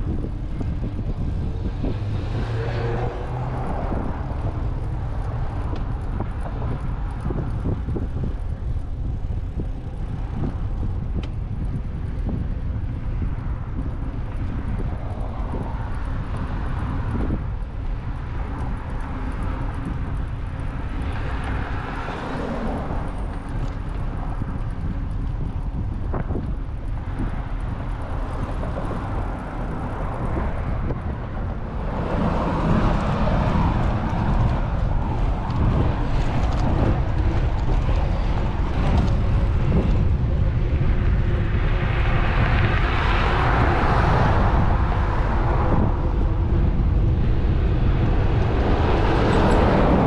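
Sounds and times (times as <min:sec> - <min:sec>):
road traffic passing: 0:00.0 - 0:50.0
wind rumble on microphone: 0:00.0 - 0:50.0.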